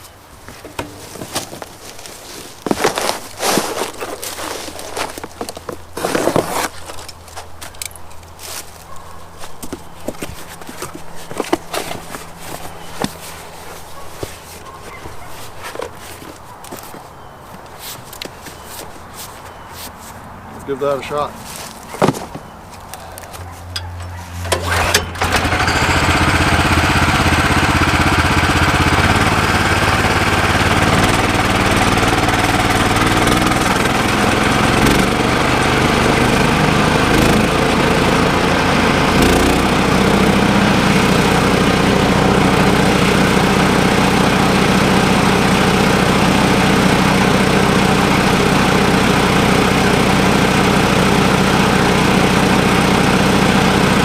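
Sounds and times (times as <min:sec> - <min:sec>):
wood chipper engine running: 0:00.6 - 0:09.0, 0:09.6 - 0:15.8, 0:23.7 - 0:54.0.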